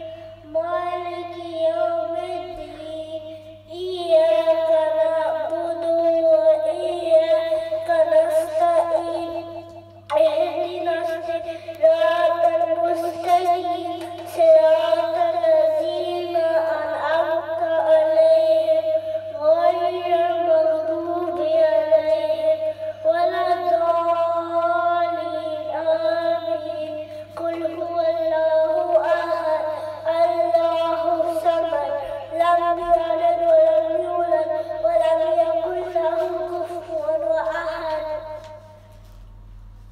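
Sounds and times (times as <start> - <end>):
boy chanting into microphone: 0.0 - 39.0
steady low hum: 0.0 - 39.9.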